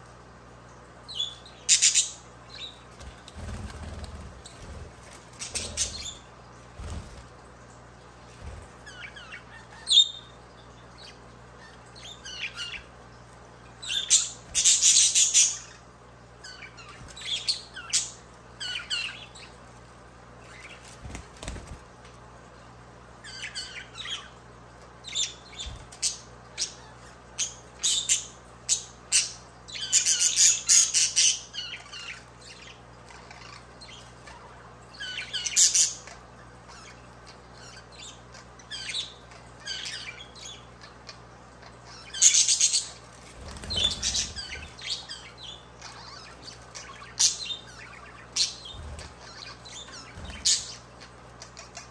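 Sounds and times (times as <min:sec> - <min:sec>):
faint low hum: 0:00.0 - 0:51.9
budgerigars chirping and squawking: 0:01.1 - 0:07.2, 0:08.4 - 0:12.9, 0:13.7 - 0:19.6, 0:23.2 - 0:24.4, 0:25.0 - 0:51.9.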